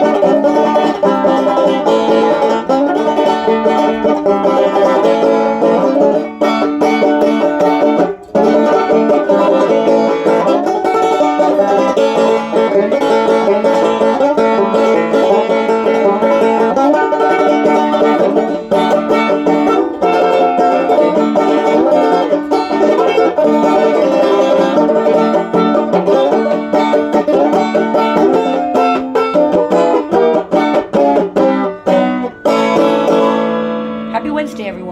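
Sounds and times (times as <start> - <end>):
banjo picking bluegrass tune: 0.0 - 34.9.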